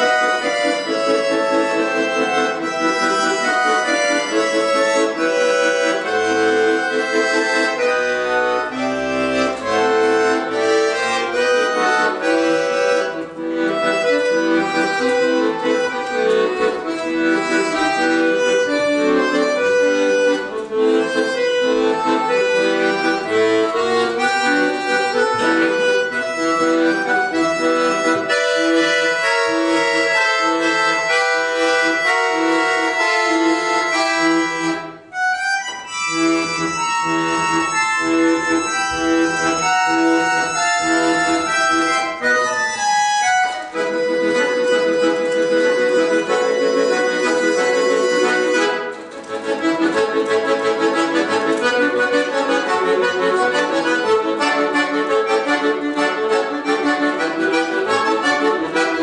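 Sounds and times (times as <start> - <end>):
piano accordion melody: 0.0 - 59.0.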